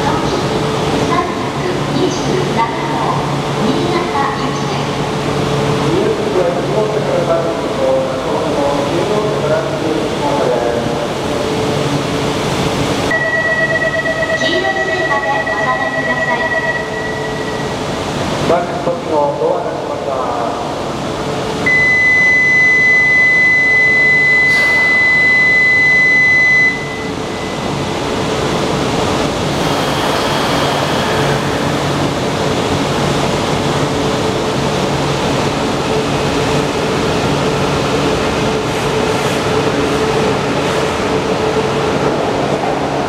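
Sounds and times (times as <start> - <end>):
low steady train hum: 0.0 - 43.0.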